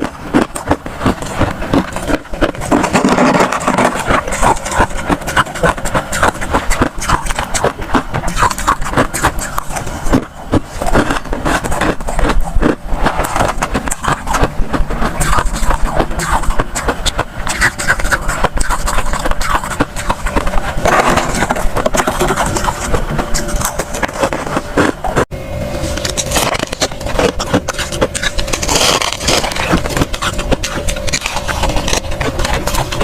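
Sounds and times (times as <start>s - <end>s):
freezer frost crunching: 0.0s - 33.0s.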